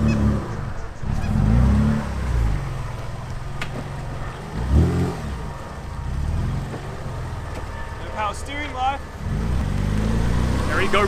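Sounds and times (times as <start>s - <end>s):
car engine running at low speed: 0.0s - 11.0s.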